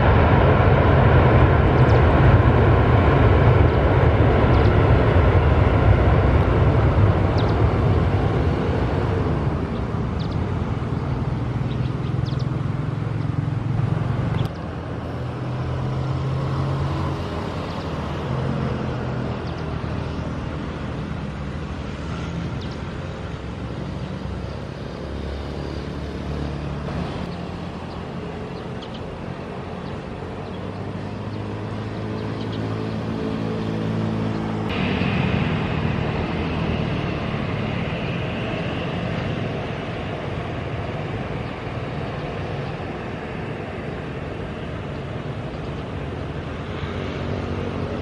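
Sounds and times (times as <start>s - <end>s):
jet airliner rumbling: 0.0s - 48.0s.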